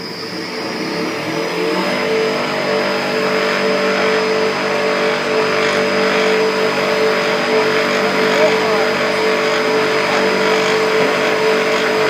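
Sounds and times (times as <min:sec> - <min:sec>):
wood lathe motors whining: 0:00.0 - 0:12.0.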